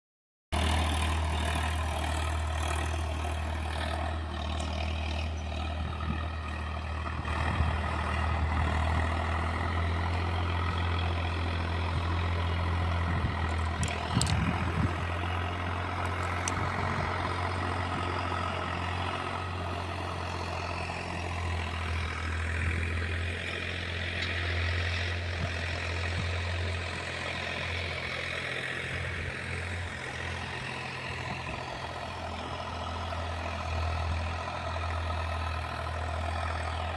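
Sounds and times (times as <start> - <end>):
engine humming: 0.6 - 36.9.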